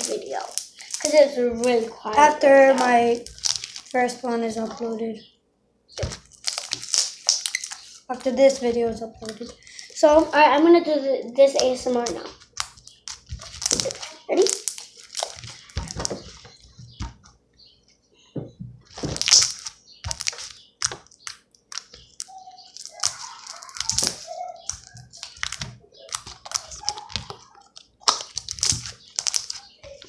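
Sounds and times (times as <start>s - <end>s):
slime squelching by hand: 0.0s - 5.2s, 6.0s - 10.8s, 11.4s - 17.4s, 18.8s - 30.0s.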